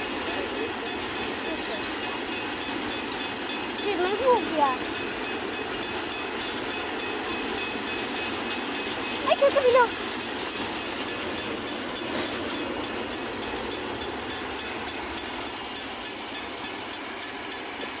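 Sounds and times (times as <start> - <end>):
train rumble and hiss: 0.0 - 18.0.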